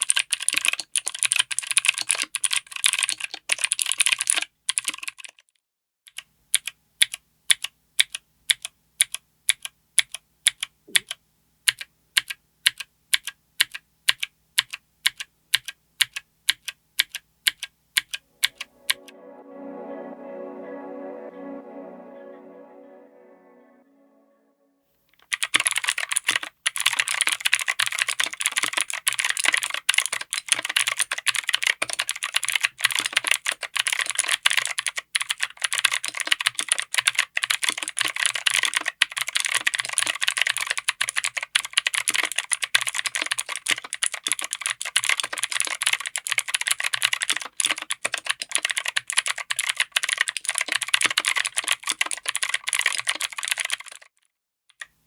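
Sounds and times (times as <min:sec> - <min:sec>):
fast typing on clicky keyboard: 0:00.0 - 0:05.4, 0:06.1 - 0:18.2, 0:25.2 - 0:54.2.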